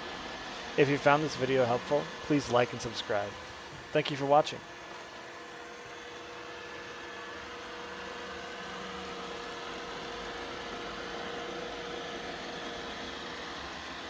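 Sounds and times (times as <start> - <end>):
robot vacuum whirring: 0.0 - 14.0.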